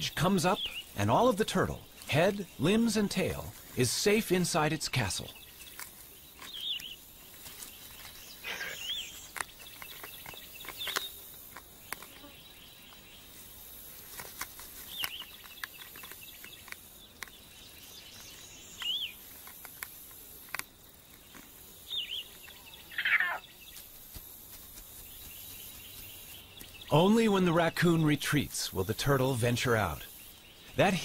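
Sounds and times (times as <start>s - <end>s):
bird chirping: 0.0s - 13.8s, 14.7s - 19.8s, 21.1s - 24.0s, 24.9s - 31.0s.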